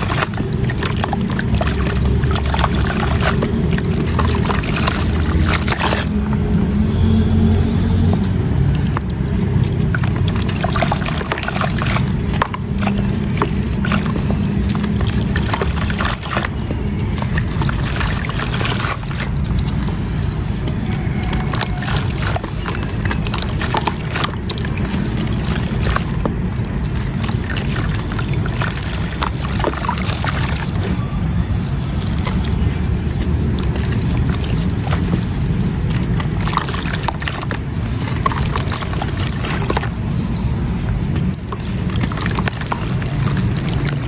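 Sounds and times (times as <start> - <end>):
gritty crumbs crackling in water: 0.0 - 44.0
low watery wash: 0.0 - 44.0.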